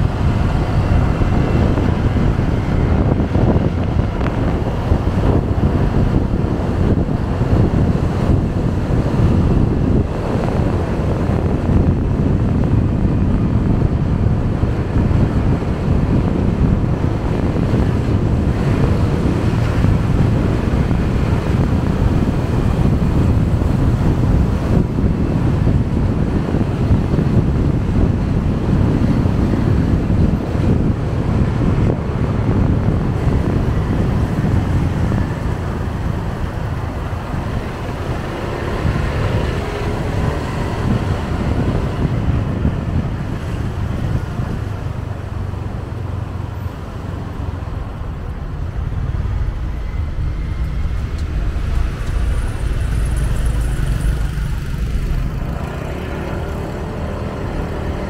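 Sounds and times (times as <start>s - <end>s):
motorcycle and road rumble: 0.0s - 58.0s
wind buffeting microphone: 0.0s - 58.0s.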